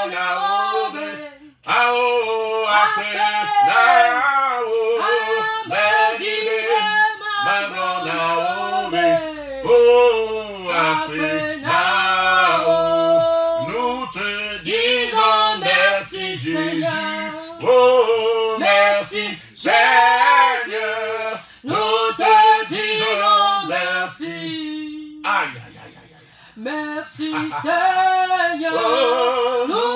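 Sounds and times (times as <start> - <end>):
man singing unaccompanied: 0.0 - 25.4, 27.2 - 29.9.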